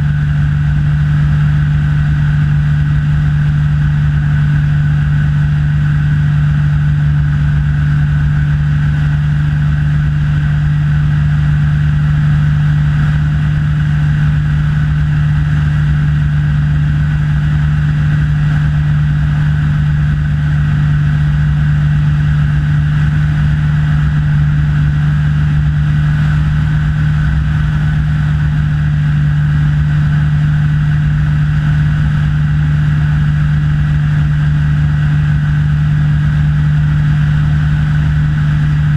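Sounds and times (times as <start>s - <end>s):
propeller aircraft engine droning: 0.0s - 38.9s.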